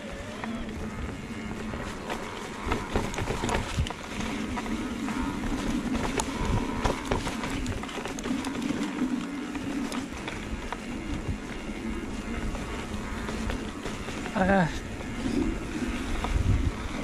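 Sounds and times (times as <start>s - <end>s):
drive motor hum: 0.0s - 17.0s.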